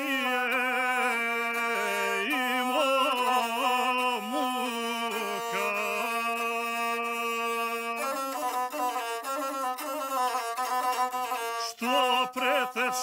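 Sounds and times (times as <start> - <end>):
bowed single-string fiddle: 0.0 - 13.0
person singing: 0.0 - 13.0.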